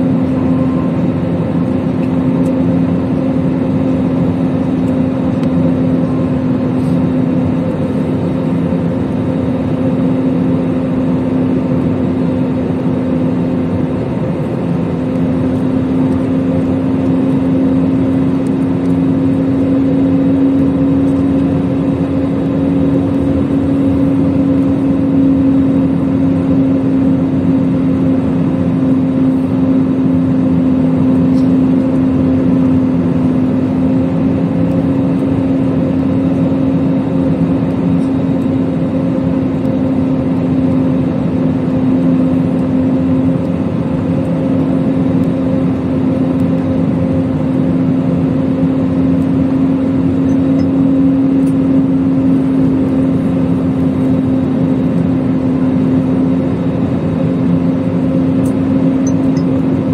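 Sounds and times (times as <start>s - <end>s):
jet engine drone: 0.0s - 59.9s
low even hum: 0.0s - 59.9s.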